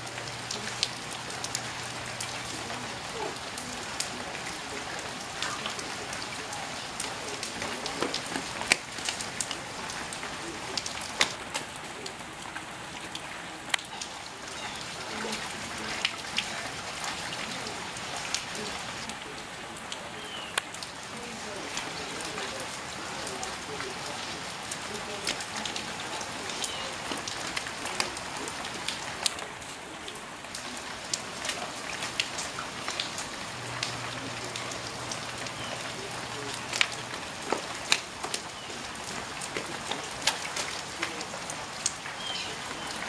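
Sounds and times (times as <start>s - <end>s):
sharp drip ticks: 0.0s - 19.2s, 19.8s - 21.0s, 21.8s - 43.0s
light rain pattering on puddles: 0.0s - 43.0s.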